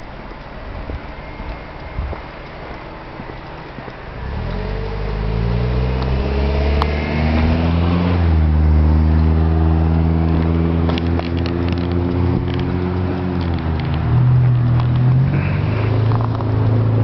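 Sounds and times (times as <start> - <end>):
vehicle engine running: 0.6 - 17.0.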